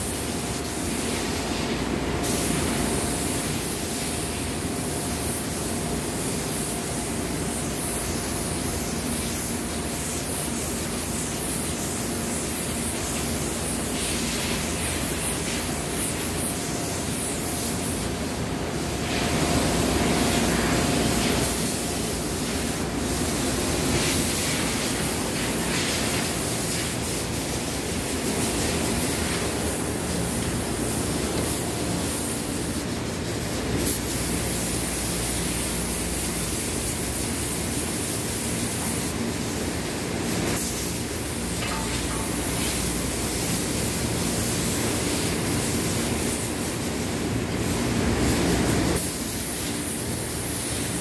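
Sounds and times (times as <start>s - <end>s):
spray gun hissing: 0.0s - 51.0s.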